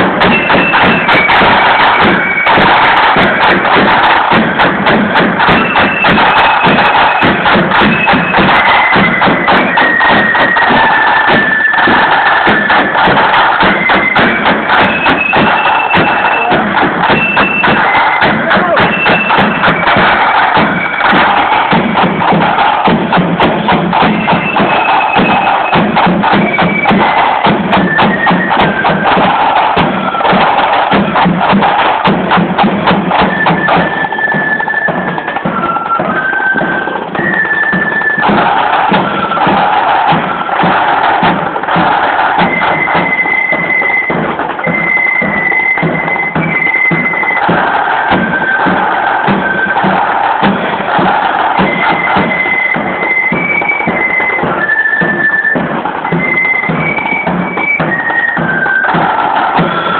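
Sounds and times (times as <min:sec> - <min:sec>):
marching band melody: 0:00.0 - 0:59.9
side drum strokes: 0:00.0 - 0:59.9.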